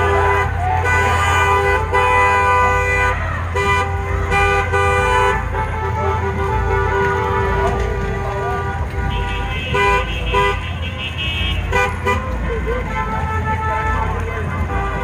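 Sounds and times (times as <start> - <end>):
car horns honking: 0.0 - 15.0.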